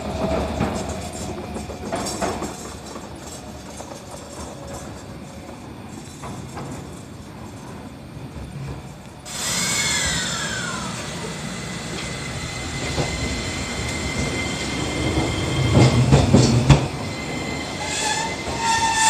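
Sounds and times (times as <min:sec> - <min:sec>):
tram wheels clacking over rails: 0:00.0 - 0:09.4, 0:10.0 - 0:19.0
tram running: 0:00.0 - 0:19.0.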